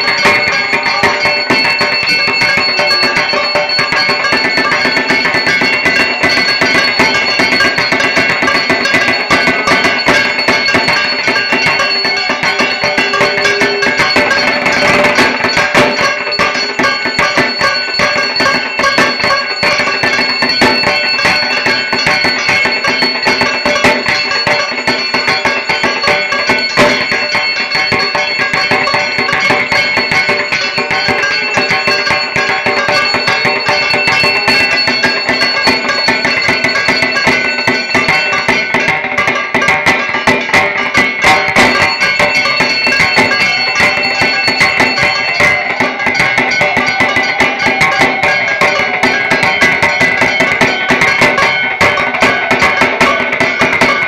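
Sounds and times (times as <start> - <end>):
drums beaten with sticks: 0.0 - 54.0
high ringing tone: 0.0 - 54.0.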